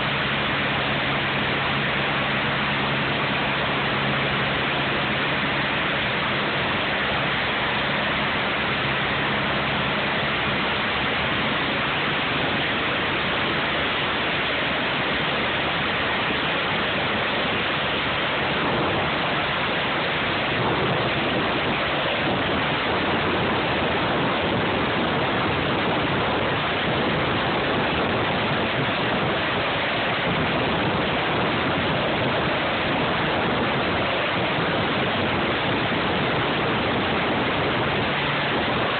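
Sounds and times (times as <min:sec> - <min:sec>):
helicopter rotor and turbine rushing: 0:00.0 - 0:38.9.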